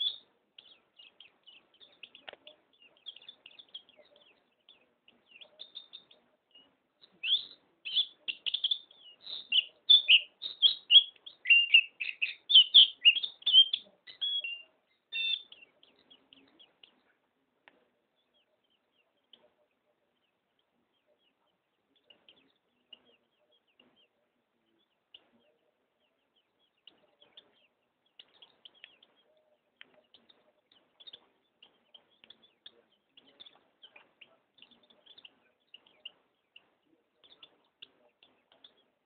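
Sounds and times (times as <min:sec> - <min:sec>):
songbird chirping and twittering: 0:00.0 - 0:39.0.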